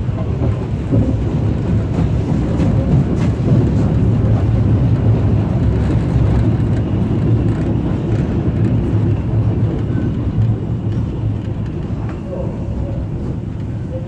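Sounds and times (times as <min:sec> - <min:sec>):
steam locomotive rumble: 0:00.0 - 0:14.0.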